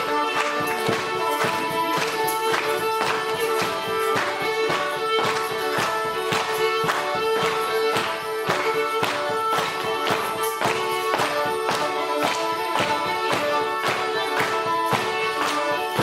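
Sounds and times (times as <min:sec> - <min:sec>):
percussive beat: 0:00.0 - 0:16.0.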